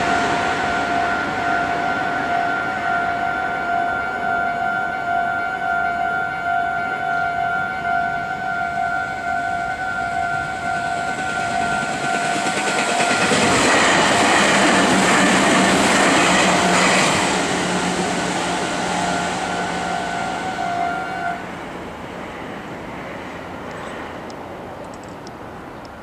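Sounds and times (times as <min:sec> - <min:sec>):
train wheels rushing on rail: 0:00.0 - 0:26.0.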